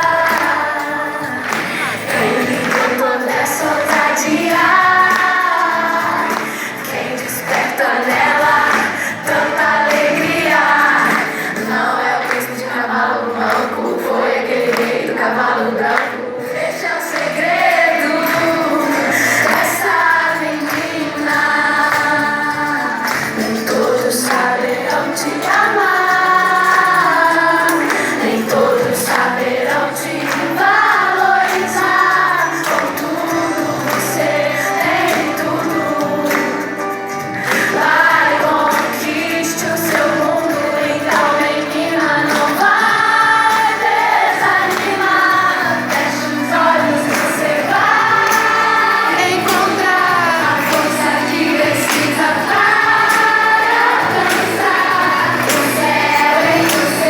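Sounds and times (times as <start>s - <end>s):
backing music: 0.0s - 12.6s, 16.7s - 57.0s
women singing gospel: 0.0s - 57.0s.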